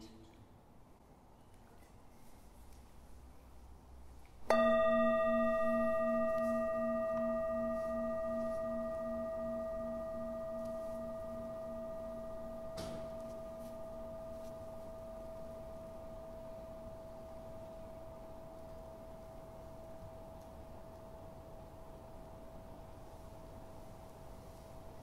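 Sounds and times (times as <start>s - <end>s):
singing bowl ringing: 4.5s - 25.0s.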